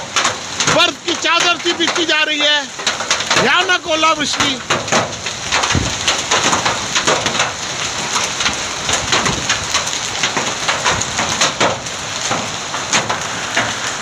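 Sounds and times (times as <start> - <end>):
hail clattering on pavement: 0.0 - 14.0.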